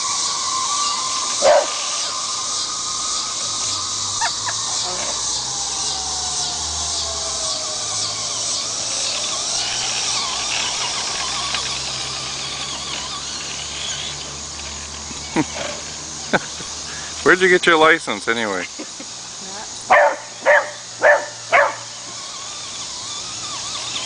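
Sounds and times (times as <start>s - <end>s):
toy truck motor whining: 0.0s - 24.0s.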